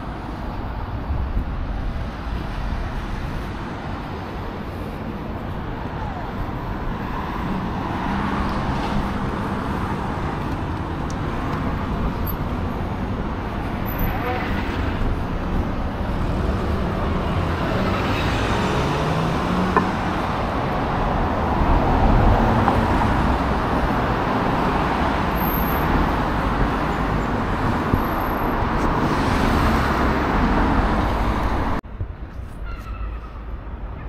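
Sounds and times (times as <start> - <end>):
cars passing: 0.0 - 32.3.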